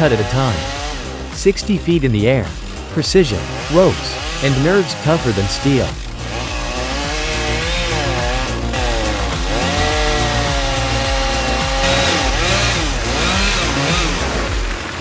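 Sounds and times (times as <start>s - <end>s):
background music with low beat: 0.0s - 15.0s
chainsaw cutting and revving: 0.0s - 15.0s.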